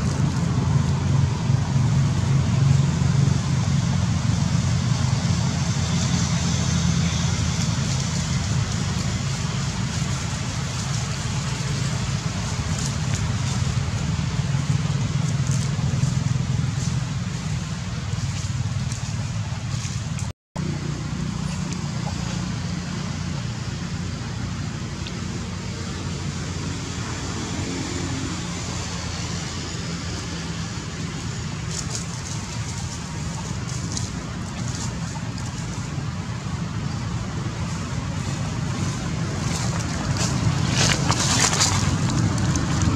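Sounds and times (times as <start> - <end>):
steady low rumble with hiss: 0.0 - 42.9.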